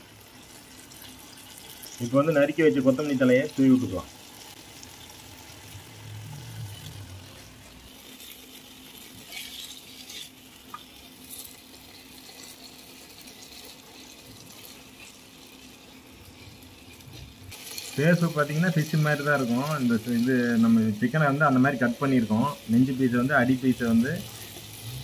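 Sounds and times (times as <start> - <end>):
sauce simmering in a pan: 0.0 - 25.0
spatula stirring in a pan: 4.1 - 25.0.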